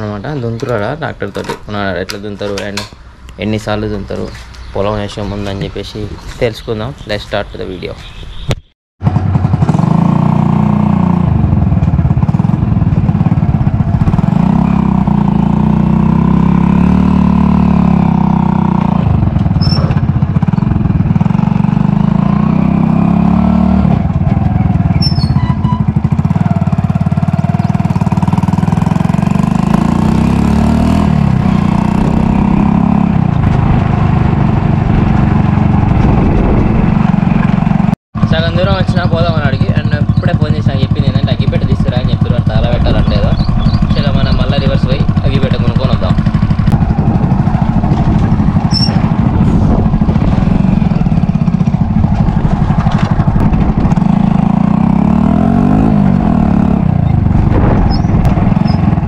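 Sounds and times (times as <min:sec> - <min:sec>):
motorcycle engine running: 0:09.0 - 0:59.0.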